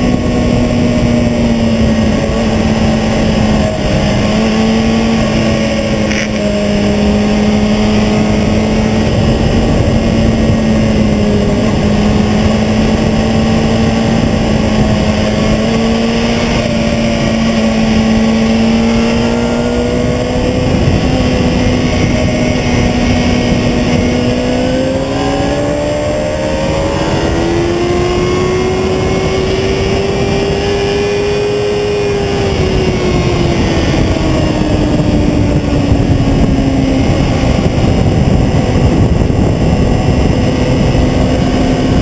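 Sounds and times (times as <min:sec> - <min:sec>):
motorcycle engine running hard: 0:00.0 - 0:42.0
wind rush on camera: 0:00.0 - 0:42.0.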